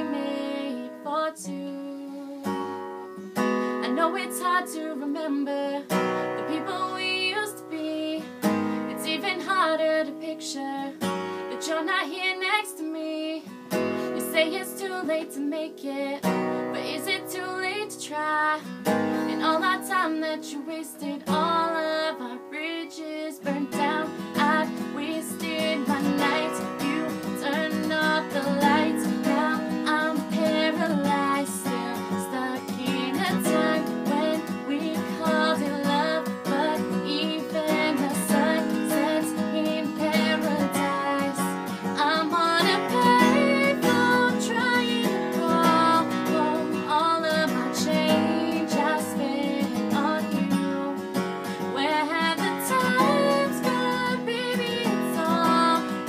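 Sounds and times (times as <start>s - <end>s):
acoustic guitar strumming: 0.0s - 56.0s
woman singing pop song: 0.0s - 56.0s.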